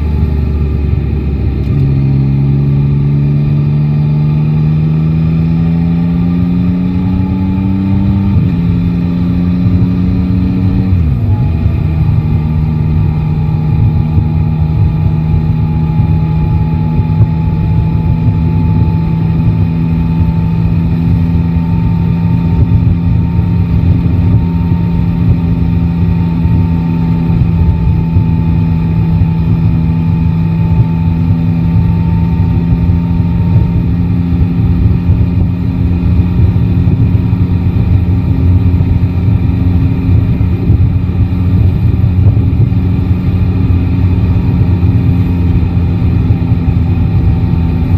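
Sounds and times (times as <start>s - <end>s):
motorcycle engine accelerating: 0.0s - 47.9s
wind and road noise: 0.0s - 47.9s.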